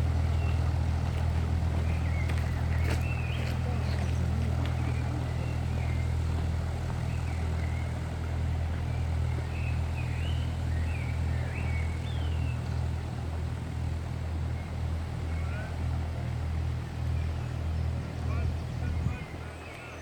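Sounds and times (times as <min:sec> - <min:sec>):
boat engine rumbling: 0:00.0 - 0:20.0
small birds chirping: 0:00.0 - 0:20.0.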